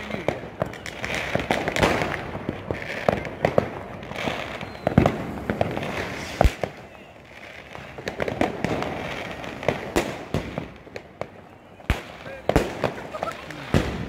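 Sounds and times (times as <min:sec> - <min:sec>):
fireworks bangs and pops: 0:00.0 - 0:14.0.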